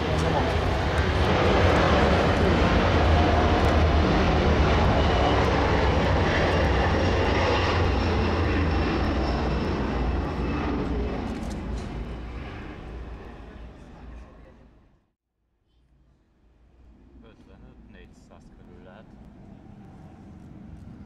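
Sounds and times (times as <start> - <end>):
jet engines at takeoff power: 0.0 - 14.7, 16.4 - 21.0.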